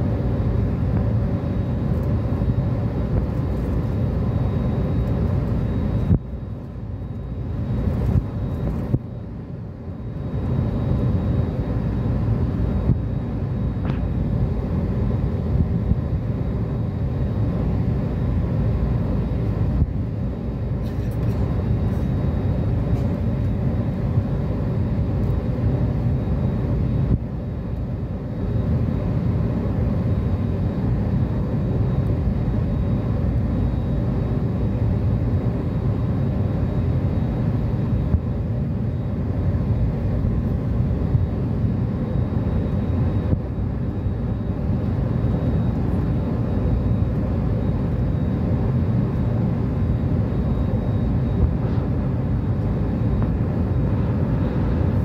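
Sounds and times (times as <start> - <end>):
jet engines droning: 0.0 - 55.0.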